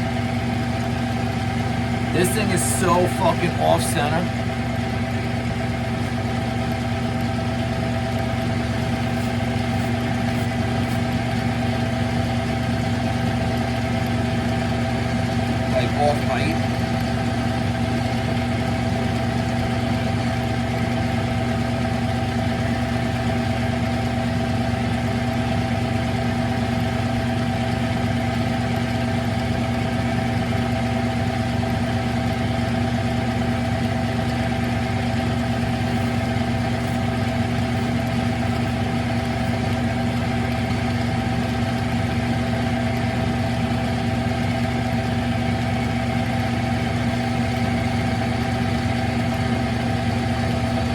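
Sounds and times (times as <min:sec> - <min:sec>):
lathe humming: 0:00.0 - 0:50.9.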